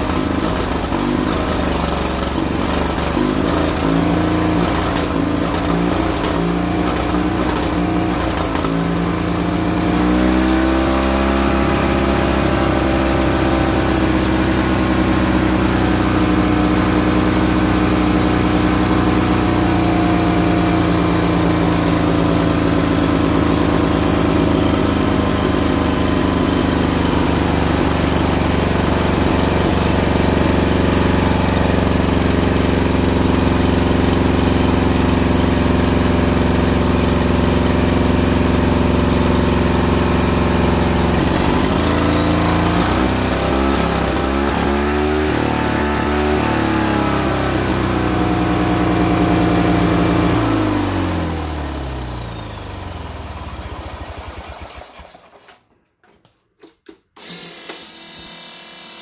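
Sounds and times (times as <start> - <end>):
engine running and revving: 0.0 - 55.1.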